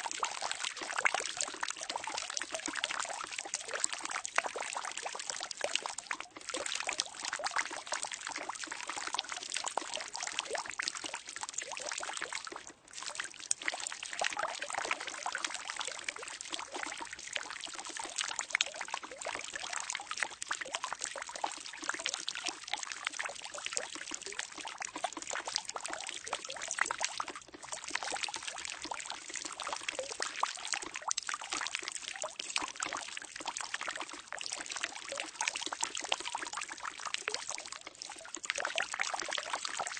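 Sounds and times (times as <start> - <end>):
water pouring into barrel: 0.0 - 39.9.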